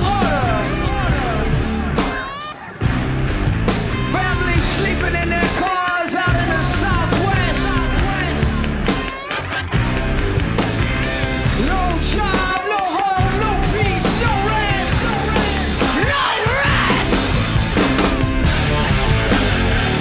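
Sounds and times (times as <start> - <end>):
rock music with singing: 0.0 - 20.0.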